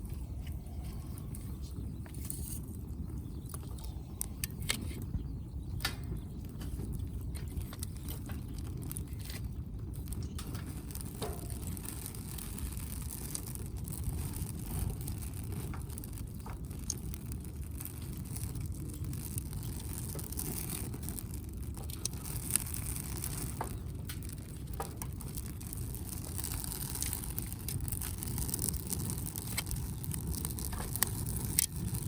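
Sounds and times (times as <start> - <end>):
campfire crackling: 0.0 - 32.0
fire low rumble: 0.0 - 32.0.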